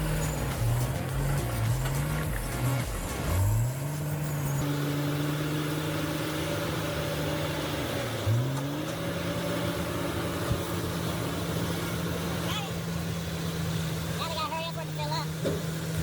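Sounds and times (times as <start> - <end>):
bulldozer diesel engine revving: 0.0 - 16.0.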